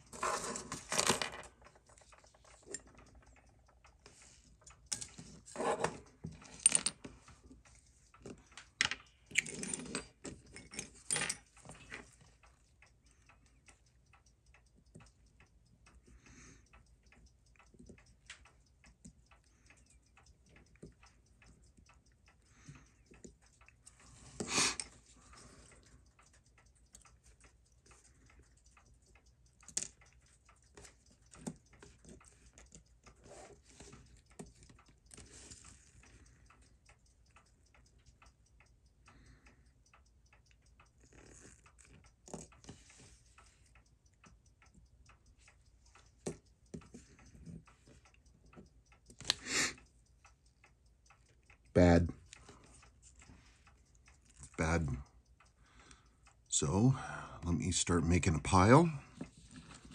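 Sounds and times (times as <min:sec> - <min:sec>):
metal tools clicking on watch parts: 0:00.0 - 0:54.6.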